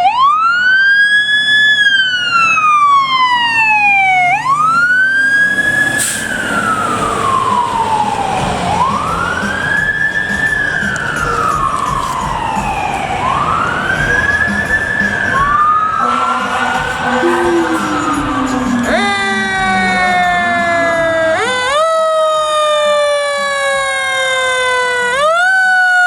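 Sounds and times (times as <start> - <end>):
fire truck siren wailing: 0.0 - 26.0
second siren: 0.0 - 26.0
low steady tones: 1.7 - 24.9.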